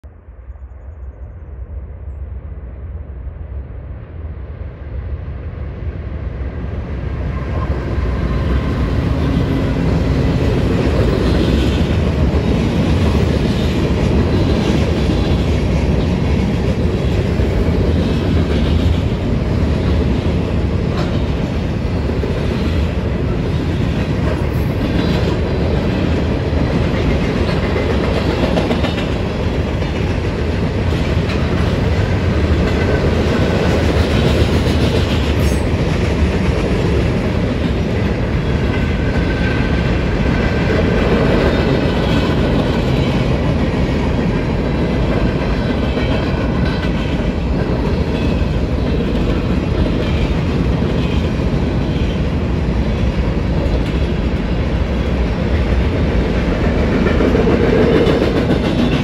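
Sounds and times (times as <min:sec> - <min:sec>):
freight train rolling past: 0:00.2 - 0:59.0
steel wheels clacking over rail joints: 0:08.0 - 0:59.0.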